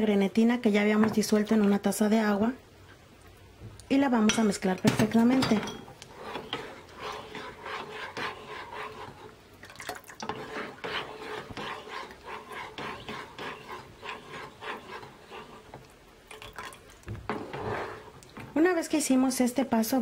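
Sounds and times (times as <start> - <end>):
spoon stirring in a saucepan: 0.3 - 3.0, 3.7 - 19.5.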